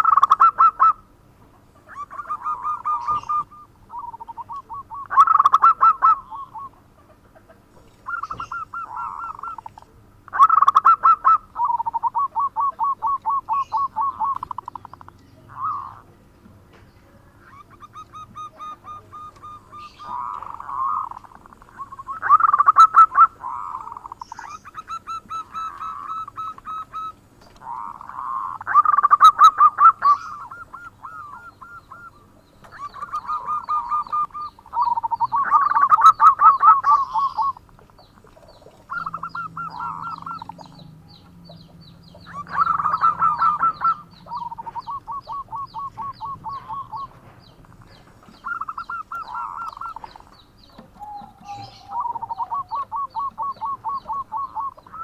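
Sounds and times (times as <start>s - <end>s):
dove cooing staccato notes: 0.0s - 55.0s.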